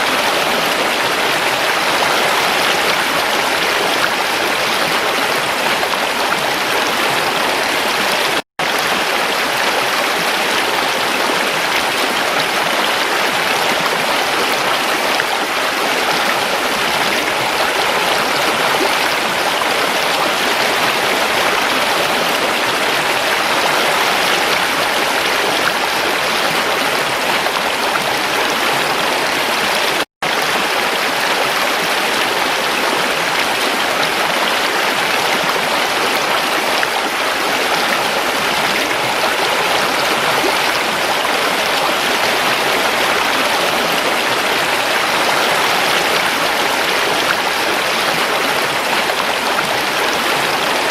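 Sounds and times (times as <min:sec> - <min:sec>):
creek water flowing: 0:00.0 - 0:50.9.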